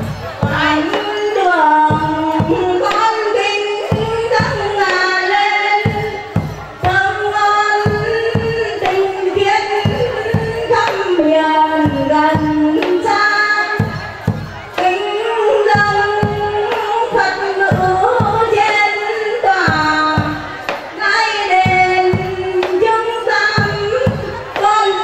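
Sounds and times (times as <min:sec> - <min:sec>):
instrumental backing with steady beat: 0:00.0 - 0:25.0
woman singing into a microphone: 0:00.0 - 0:25.0.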